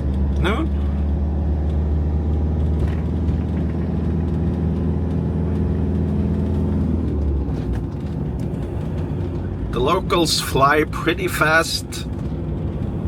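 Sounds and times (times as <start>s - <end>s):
road noise: 0.0s - 13.0s
van engine droning while driving: 0.0s - 13.0s.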